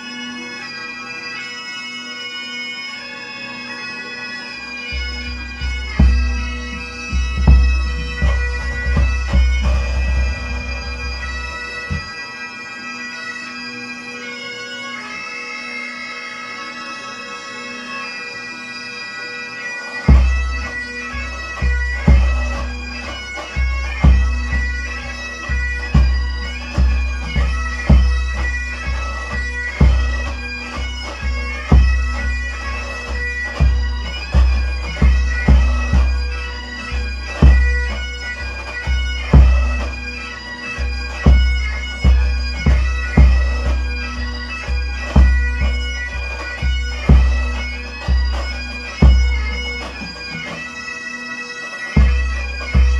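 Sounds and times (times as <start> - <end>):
bagpipes playing a tune: 0.0 - 52.9.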